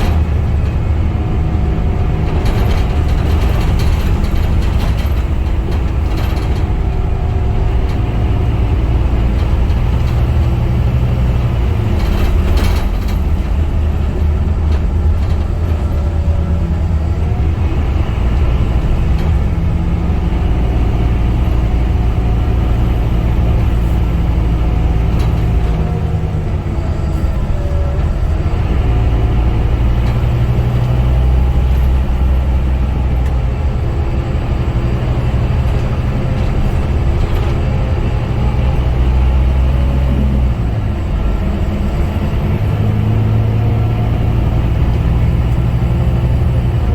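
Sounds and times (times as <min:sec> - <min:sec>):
bus diesel engine running: 0:00.0 - 0:46.9.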